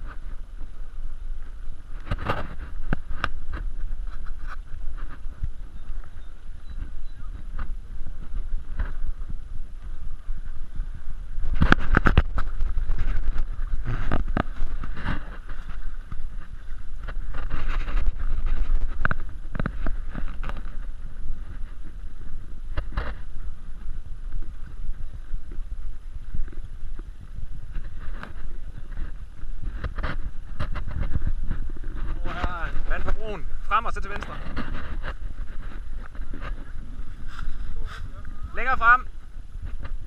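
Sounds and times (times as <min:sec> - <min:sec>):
footsteps on wooden planks: 0:00.0 - 0:40.0
wind rumble on microphone: 0:00.0 - 0:40.0.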